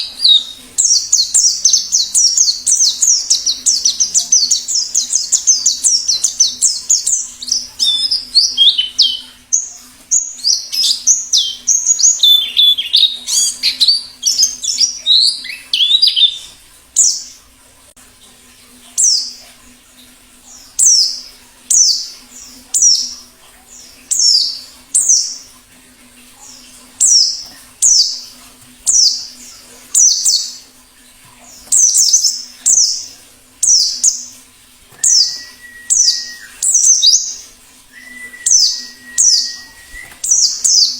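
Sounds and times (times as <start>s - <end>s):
bird twittering and chirping: 0.0s - 17.4s, 20.5s - 25.5s, 26.4s - 30.6s, 31.5s - 40.9s.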